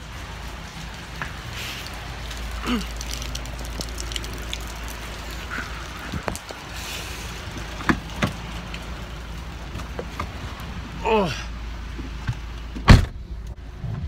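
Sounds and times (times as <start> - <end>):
rain and wind noise: 0.0 - 14.0.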